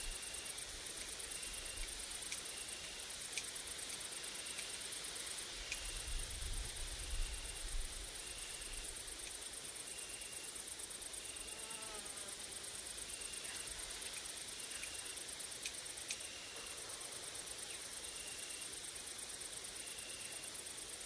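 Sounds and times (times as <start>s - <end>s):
insects high-pitched chirring: 0.0s - 21.0s.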